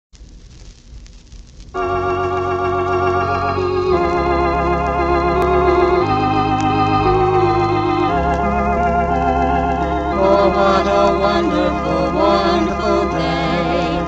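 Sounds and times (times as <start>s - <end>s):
record surface noise: 0.2s - 14.0s
organ playing gospel chords: 1.8s - 14.0s.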